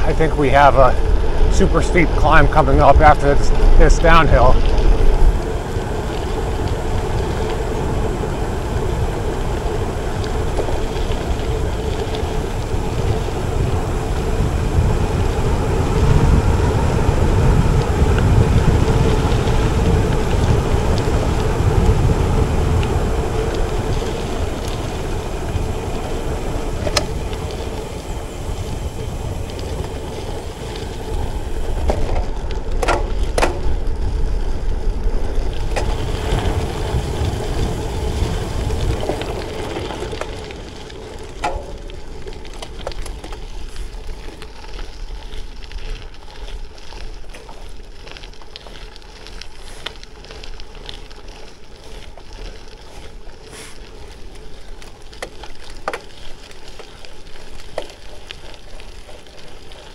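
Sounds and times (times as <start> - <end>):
wind buffeting microphone: 0.0 - 49.6
bike tyres rolling on road: 0.0 - 59.9.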